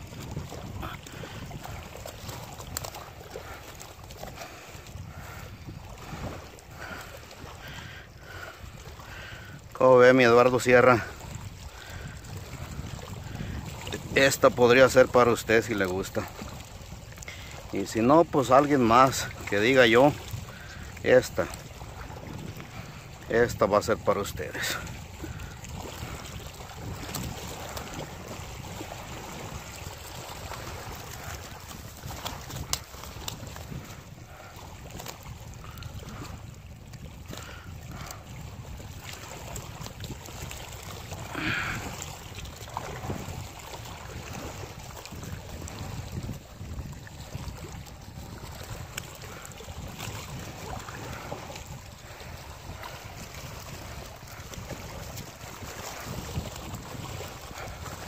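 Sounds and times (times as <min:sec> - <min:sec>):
lapping water: 0:00.0 - 0:58.0
wind: 0:00.0 - 0:58.0.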